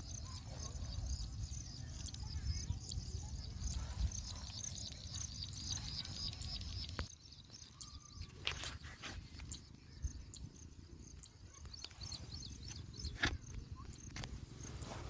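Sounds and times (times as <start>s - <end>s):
high chirping of small wildlife: 0.0s - 15.0s.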